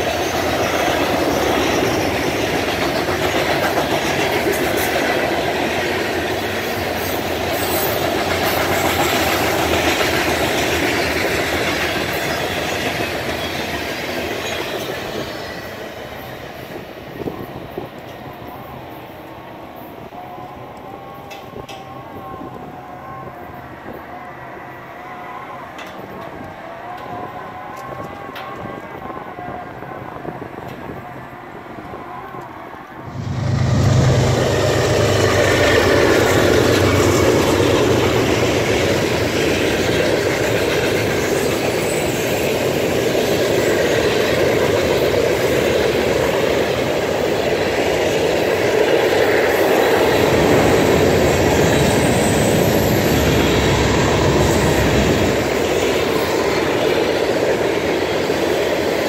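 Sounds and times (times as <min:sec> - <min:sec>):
train wheels rumbling on rail: 0:00.0 - 0:24.1, 0:25.3 - 0:59.0
diesel locomotive engine rumble: 0:00.0 - 0:59.0.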